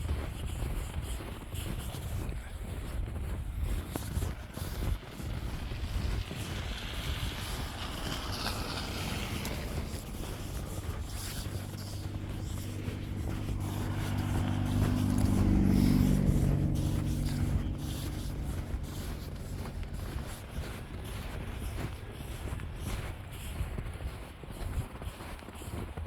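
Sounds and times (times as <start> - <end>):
steady low rumble: 0.0 - 25.0
vehicle engine humming: 3.4 - 26.0.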